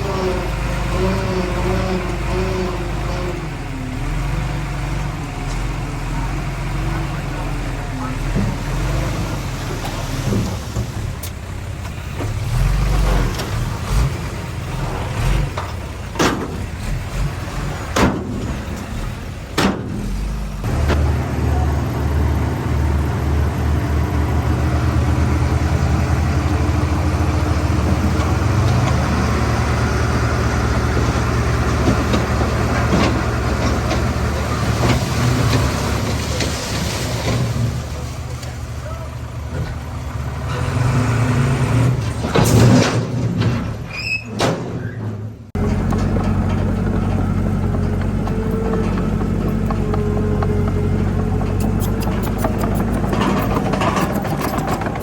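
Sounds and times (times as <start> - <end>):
diesel engine drone: 0.0 - 43.8, 45.2 - 55.0
diesel machinery engine rumble: 0.0 - 55.0.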